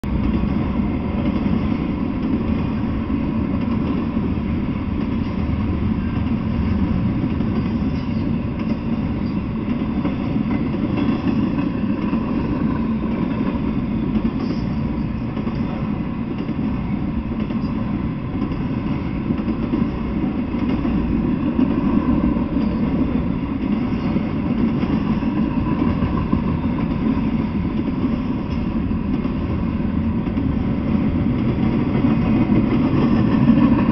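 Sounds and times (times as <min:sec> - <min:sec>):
train wheels on rails: 0:00.0 - 0:33.9.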